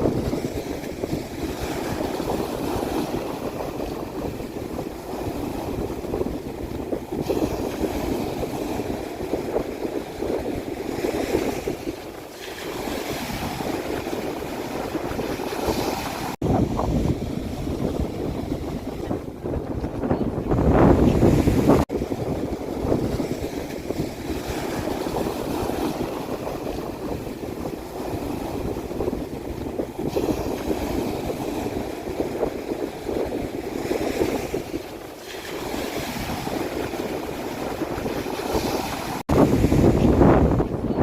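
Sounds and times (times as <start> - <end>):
sea waves crashing on shore: 0.0 - 41.0
wind noise on microphone: 0.0 - 41.0.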